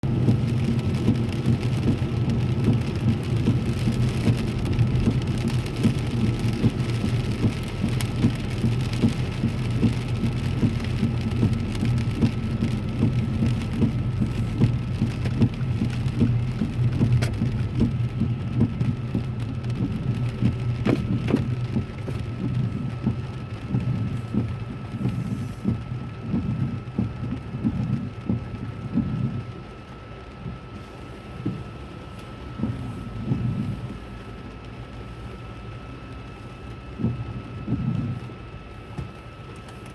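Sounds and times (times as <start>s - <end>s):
heavy rain on car roof: 0.0s - 39.9s
low rumble of moving car: 0.0s - 39.9s.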